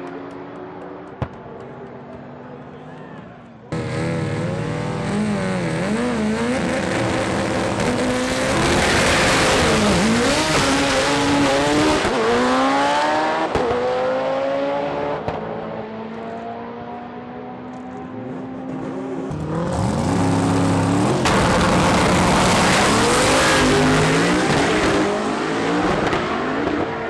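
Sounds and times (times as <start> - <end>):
drag racing car engine: 3.7 - 27.0.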